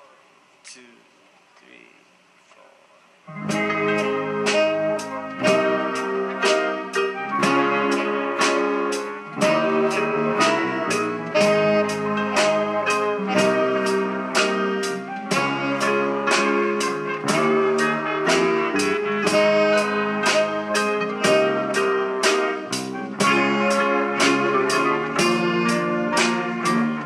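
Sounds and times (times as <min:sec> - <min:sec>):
keyboard: 0:03.2 - 0:27.0
bass: 0:03.3 - 0:27.0
electric guitar: 0:03.3 - 0:27.0
saxophone notes: 0:03.3 - 0:27.0
drums steady beat: 0:03.4 - 0:27.0.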